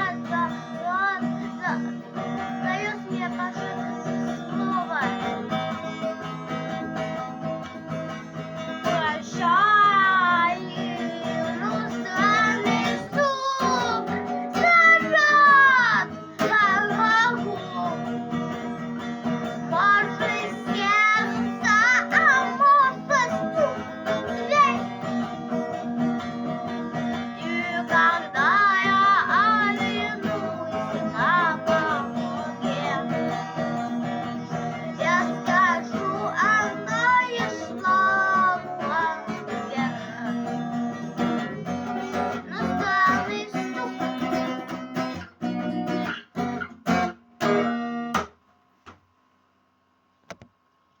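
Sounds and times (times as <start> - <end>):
person singing: 0.0 - 6.2, 8.7 - 44.7
strummed guitar: 0.0 - 48.5.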